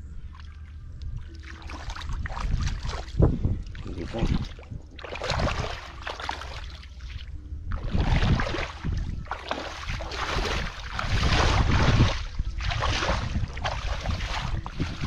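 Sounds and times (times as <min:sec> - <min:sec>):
feet splashing in muddy water: 0:00.2 - 0:15.0.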